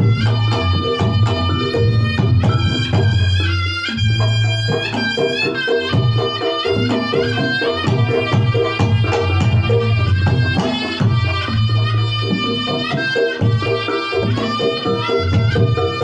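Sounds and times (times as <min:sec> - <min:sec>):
hand drums: 0:00.0 - 0:16.0
reedy trumpet melody: 0:00.0 - 0:16.0
repeating percussion strokes: 0:00.0 - 0:16.0.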